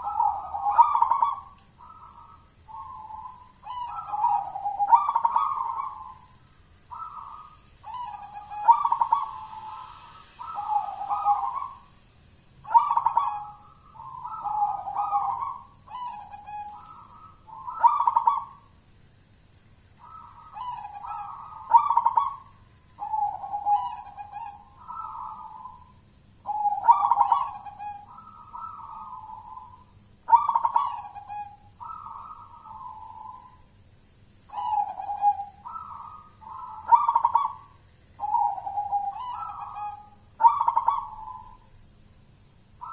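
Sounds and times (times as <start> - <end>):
dove cooing song: 0.0 - 12.0, 12.6 - 18.7, 19.9 - 33.8, 34.5 - 41.7.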